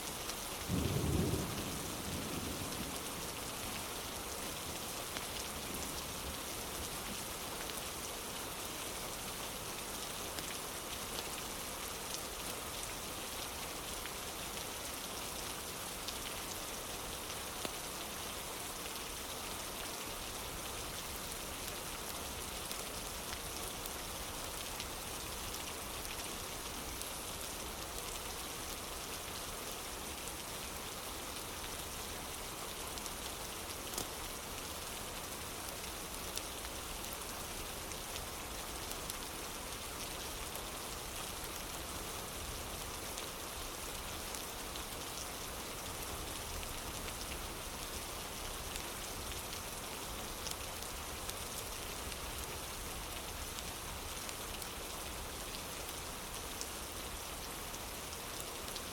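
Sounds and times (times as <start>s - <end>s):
rain on a wooden porch: 0.0s - 58.9s.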